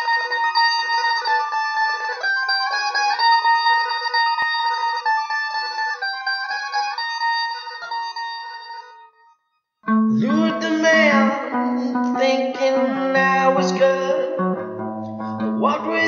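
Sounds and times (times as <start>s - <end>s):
plucked guitar melody: 0.0s - 9.2s, 9.8s - 16.0s.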